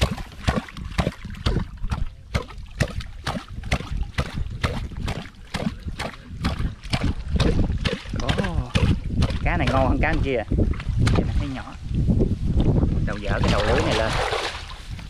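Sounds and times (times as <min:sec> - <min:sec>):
people wading through water: 0:00.0 - 0:15.0.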